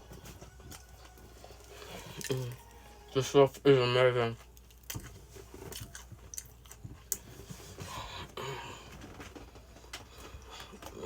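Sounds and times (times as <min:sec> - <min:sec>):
person chewing food: 0:00.0 - 0:03.6, 0:04.3 - 0:11.0.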